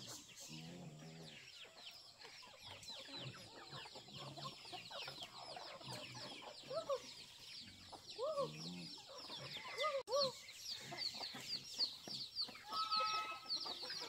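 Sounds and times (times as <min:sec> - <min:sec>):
chickens clucking: 0:00.0 - 0:14.0
chicks peeping: 0:00.0 - 0:14.0.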